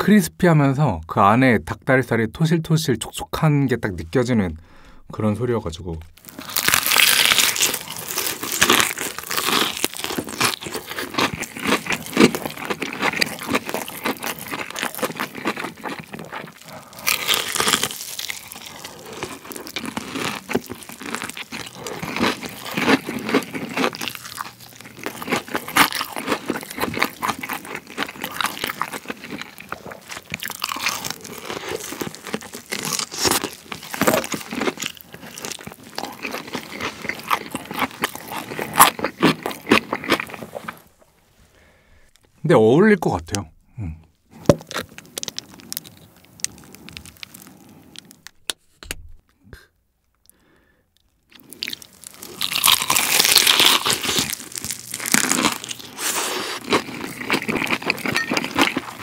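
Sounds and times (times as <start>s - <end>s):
crunching and chewing fried chicken: 6.1s - 41.0s, 44.4s - 48.5s, 50.2s - 59.0s.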